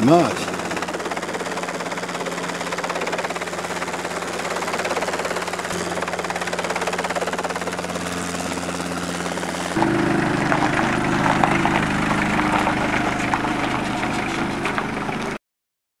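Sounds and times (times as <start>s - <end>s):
helicopter engine and rotor: 0.0s - 15.4s.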